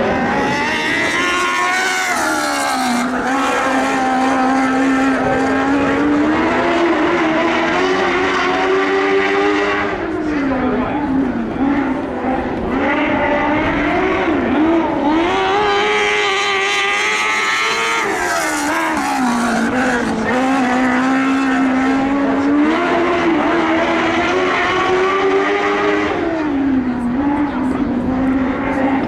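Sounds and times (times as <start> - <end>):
racing car engine revving: 0.0 - 29.0.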